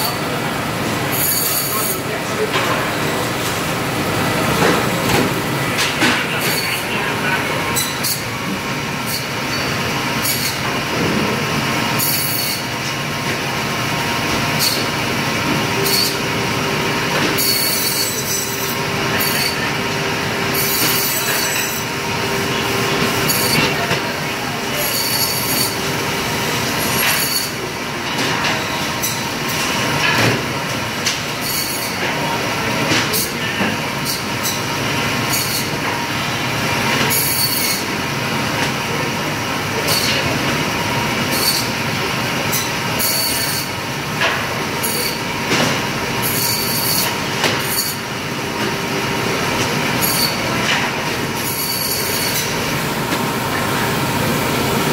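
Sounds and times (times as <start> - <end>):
meat bandsaw running: 0.0 - 54.9.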